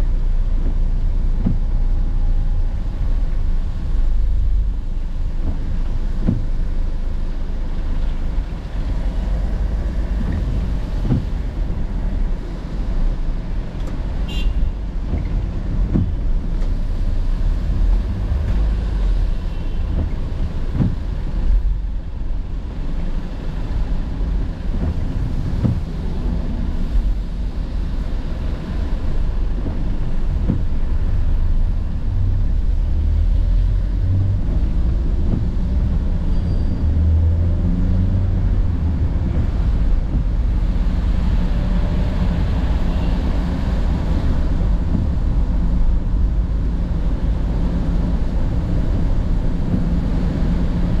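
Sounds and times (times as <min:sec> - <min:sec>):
car engine and road rumble: 0:00.0 - 0:51.0.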